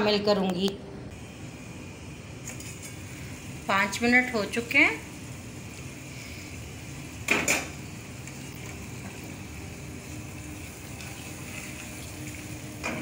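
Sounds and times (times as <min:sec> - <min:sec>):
food sizzling in pot: 0:01.2 - 0:13.0.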